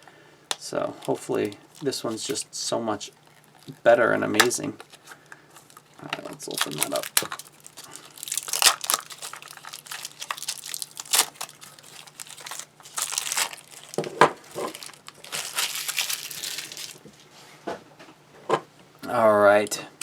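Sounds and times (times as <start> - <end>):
packaging crinkling and rustling: 0.9 - 17.1.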